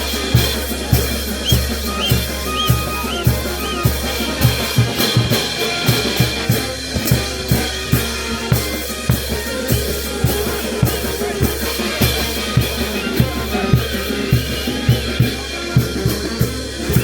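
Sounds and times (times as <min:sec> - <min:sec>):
brass band playing: 0:00.0 - 0:17.0
snare drum beating: 0:00.0 - 0:17.0.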